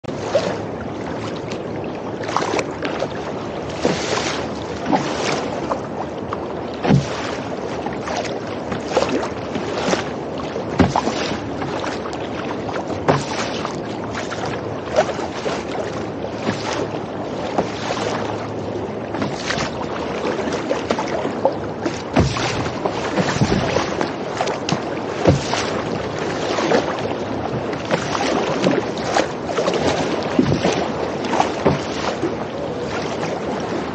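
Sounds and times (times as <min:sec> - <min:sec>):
choppy water slapping against hull: 0:00.0 - 0:33.9
paddle splashes: 0:00.0 - 0:33.9.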